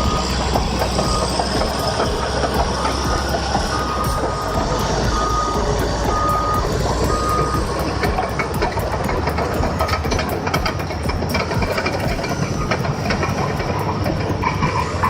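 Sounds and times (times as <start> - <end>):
heavy engine rumble: 0.0 - 15.0
machine backup alarm beeping: 0.0 - 15.0.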